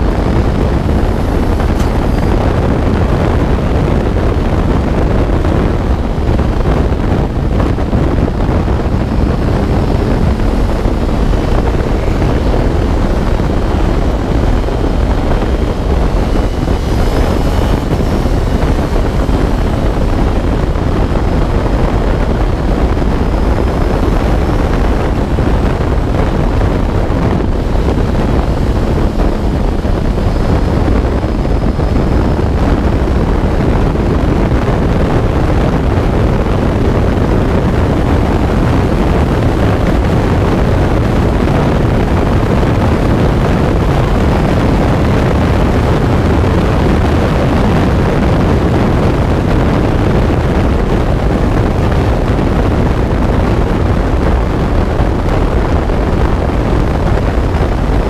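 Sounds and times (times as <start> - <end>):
race car engine: 0.0 - 58.0
wind buffeting microphone: 0.0 - 58.0.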